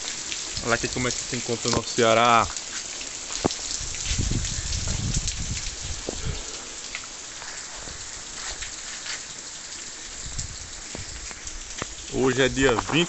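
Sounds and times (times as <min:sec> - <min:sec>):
sharp ticks of raindrops: 0:00.0 - 0:13.0
steady rain falling: 0:00.0 - 0:13.0.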